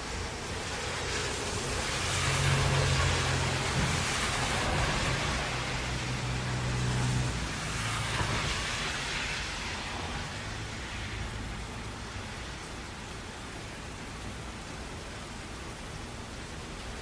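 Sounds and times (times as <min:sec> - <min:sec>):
tyre hiss of passing cars: 0:00.0 - 0:16.7
rain: 0:00.0 - 0:17.0.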